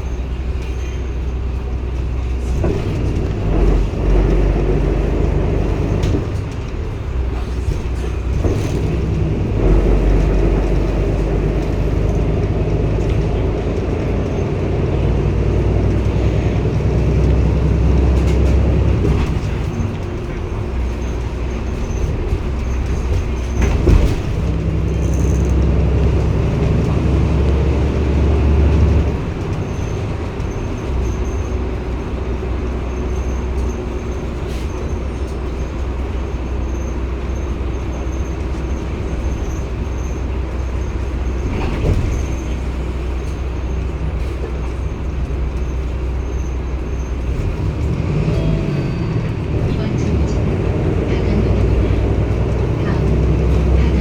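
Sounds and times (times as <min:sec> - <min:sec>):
bus diesel engine humming: 0:00.0 - 0:54.0.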